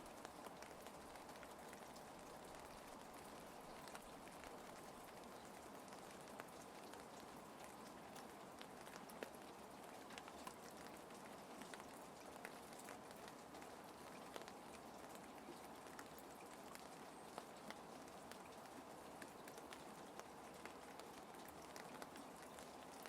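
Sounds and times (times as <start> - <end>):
rain ticking: 0.0 - 23.0.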